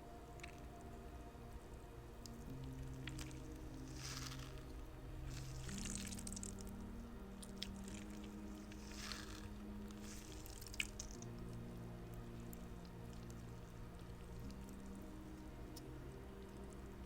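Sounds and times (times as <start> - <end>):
slow background music: 0.0 - 17.0.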